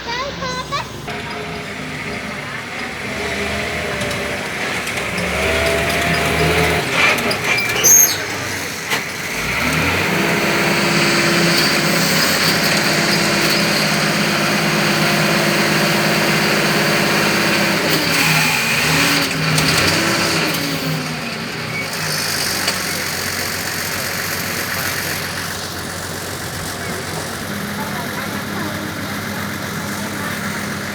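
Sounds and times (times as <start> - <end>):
diesel engine of heavy machinery: 0.0 - 30.9.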